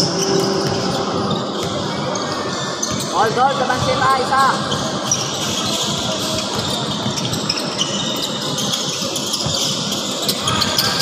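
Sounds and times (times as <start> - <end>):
shoes squeaking on court: 0.0 - 11.0.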